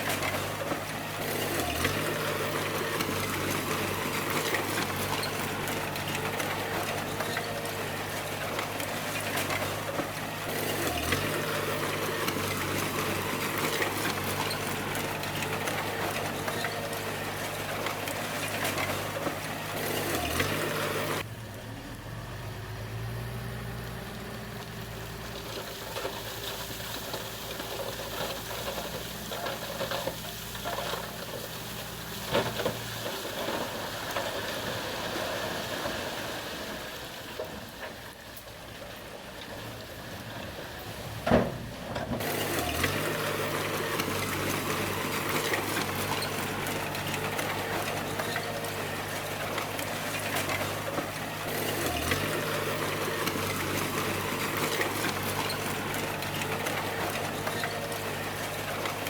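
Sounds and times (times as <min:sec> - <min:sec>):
rattle and hiss of work: 0:00.0 - 0:21.3, 0:23.6 - 0:59.0
bulldozer diesel engine: 0:00.0 - 0:59.0.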